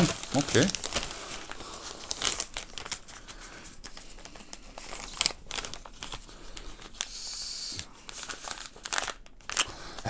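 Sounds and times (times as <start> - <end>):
plastic bag crinkling: 0.0 - 7.1, 8.1 - 10.0.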